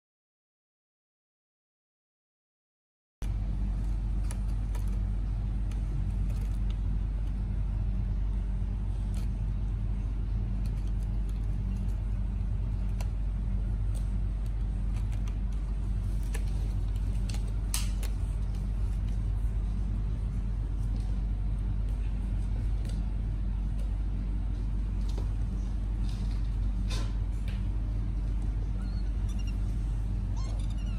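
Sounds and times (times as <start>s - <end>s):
steady low hum: 3.2s - 30.9s.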